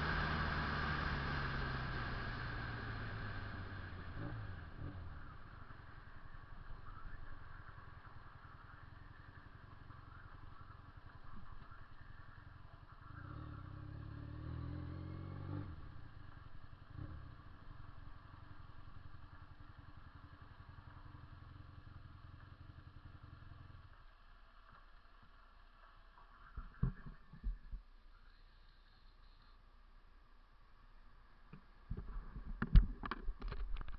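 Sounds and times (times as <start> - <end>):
motorcycle engine running: 0.0 - 29.6, 30.6 - 33.9.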